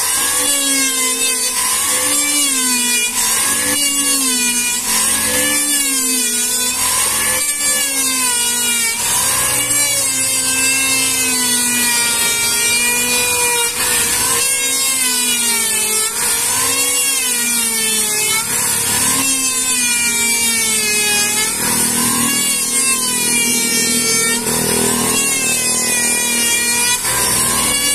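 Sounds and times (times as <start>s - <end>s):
electric planer cutting wood: 0.0s - 27.9s.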